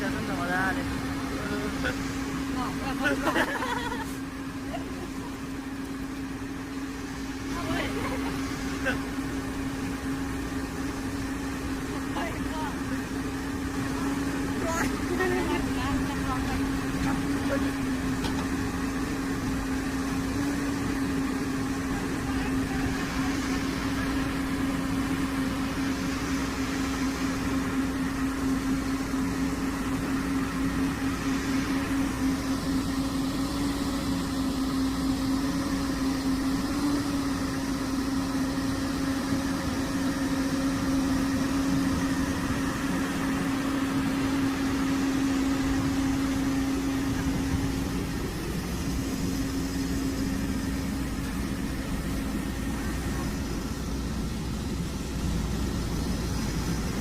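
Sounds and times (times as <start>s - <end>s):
heavy machinery engine drone: 0.0s - 57.0s.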